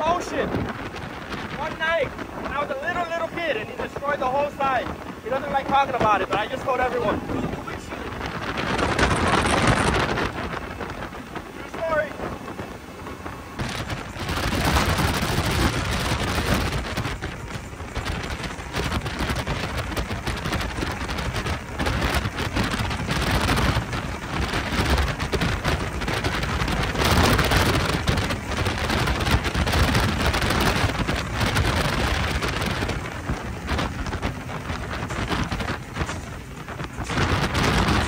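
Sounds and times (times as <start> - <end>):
water rushing along boat hull: 0.0 - 38.0
wind buffeting microphone: 0.0 - 38.0.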